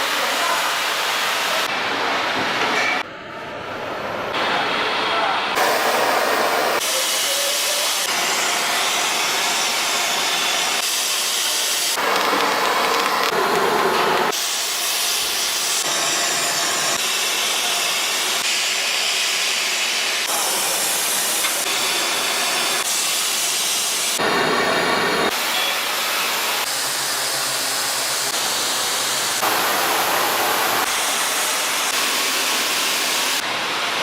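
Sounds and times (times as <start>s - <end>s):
hissing rushing factory noise: 4.3s - 34.0s.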